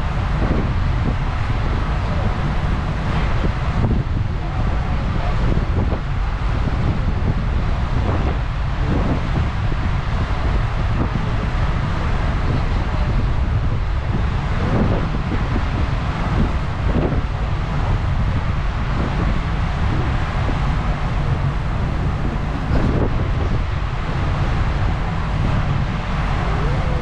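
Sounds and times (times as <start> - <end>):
steady low rumble: 0.0 - 27.0
wind buffeting microphone: 0.0 - 27.0.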